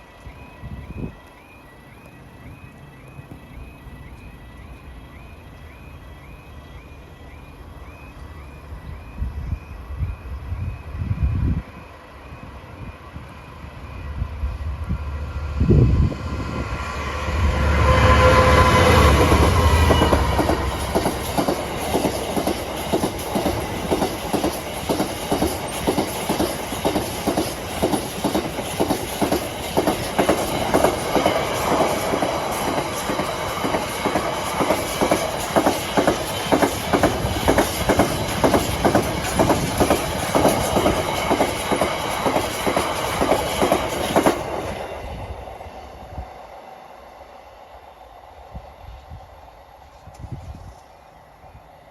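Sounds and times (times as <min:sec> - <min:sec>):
diesel locomotive engine: 0:00.0 - 0:51.9.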